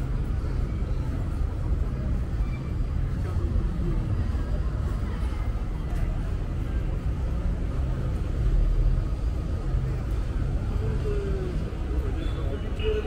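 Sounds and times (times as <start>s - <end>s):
faint voice of passer-by: 0.0s - 13.0s
street rumble: 0.0s - 13.0s.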